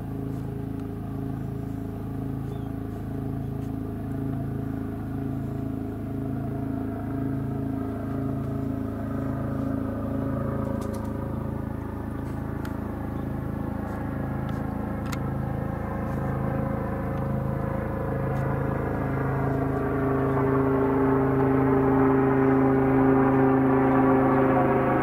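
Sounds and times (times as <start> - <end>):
helicopter engine and rotor hum: 0.0 - 25.0.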